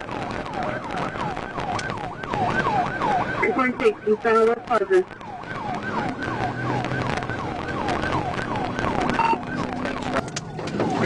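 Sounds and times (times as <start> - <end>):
police siren cycling fast: 0.0 - 11.0.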